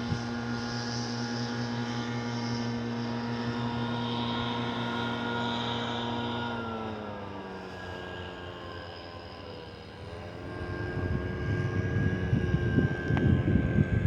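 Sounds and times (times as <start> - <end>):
engine with pitched whine: 0.0 - 14.0.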